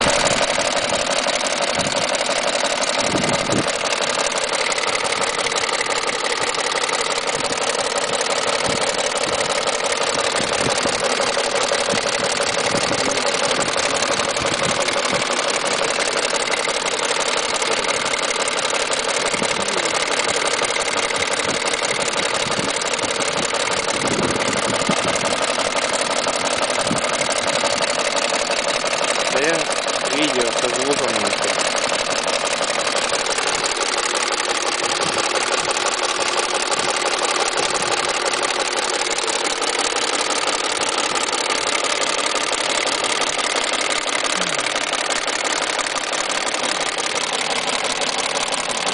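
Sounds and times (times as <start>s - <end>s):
engine running: 0.0s - 48.9s
rapid knocking from timing drive: 0.0s - 48.9s.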